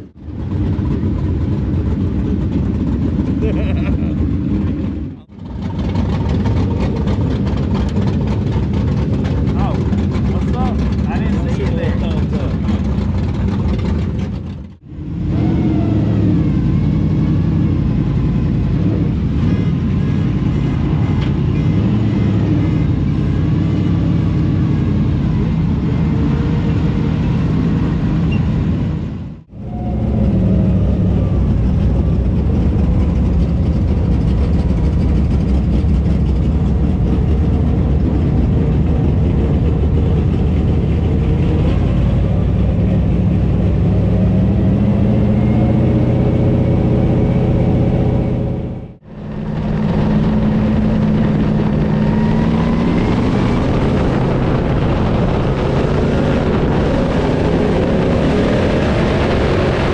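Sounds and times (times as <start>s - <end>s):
race car engines drone: 0.0s - 59.9s.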